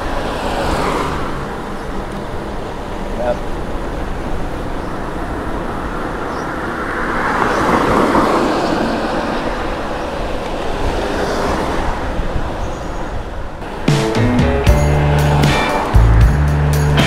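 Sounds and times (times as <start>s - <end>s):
bike road noise: 0.0s - 17.0s
rushing wind: 0.0s - 17.0s.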